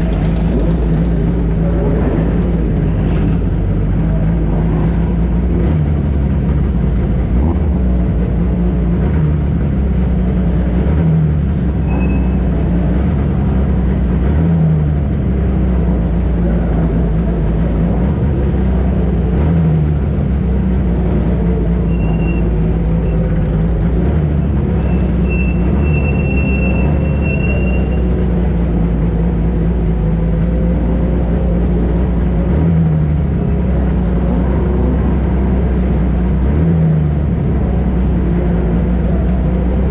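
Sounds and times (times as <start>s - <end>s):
racing car engine rumbling: 0.0s - 39.9s.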